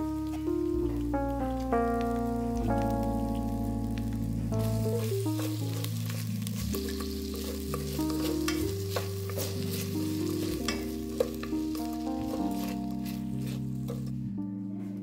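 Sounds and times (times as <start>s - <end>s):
food sizzling in a pan: 0.0s - 14.1s
soft background music: 0.0s - 15.0s
stirring clicks and scrapes: 1.6s - 14.2s.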